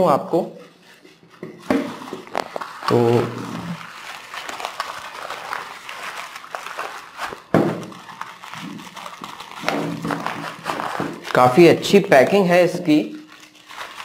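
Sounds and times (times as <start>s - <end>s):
plastic wrapping crinkling: 0.3s - 14.0s
nylon bag rustling: 0.6s - 14.0s.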